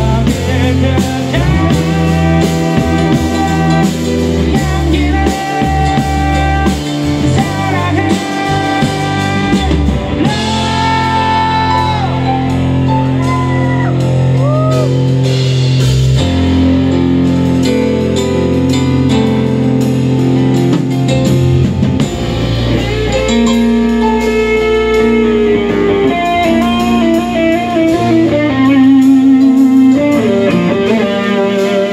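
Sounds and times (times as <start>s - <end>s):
rock band music: 0.0s - 31.9s.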